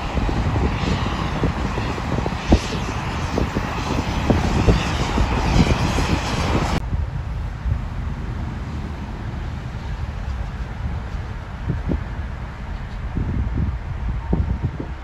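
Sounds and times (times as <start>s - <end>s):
rumble of traffic: 0.0s - 15.0s
wind buffeting microphone: 0.0s - 15.0s.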